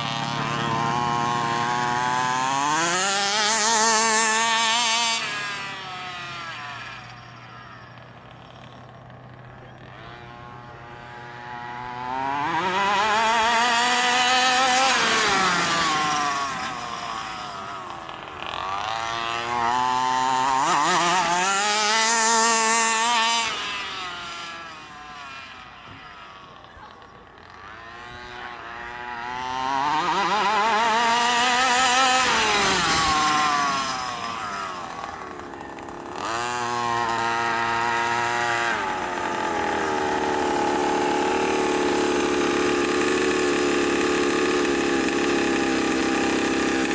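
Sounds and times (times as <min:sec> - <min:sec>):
two-stroke engine revving and idling: 0:00.0 - 0:46.9.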